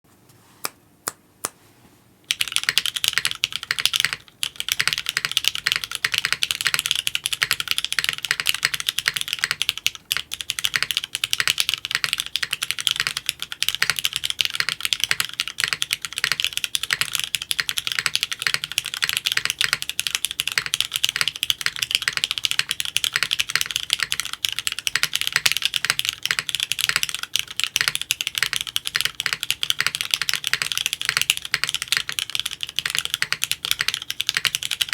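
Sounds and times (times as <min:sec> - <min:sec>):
mechanical keyboard typing: 0:02.3 - 0:34.9.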